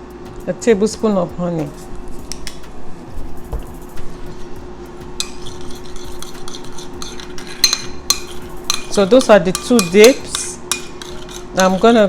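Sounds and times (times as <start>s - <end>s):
spoon scraping a bowl: 1.6s - 12.0s.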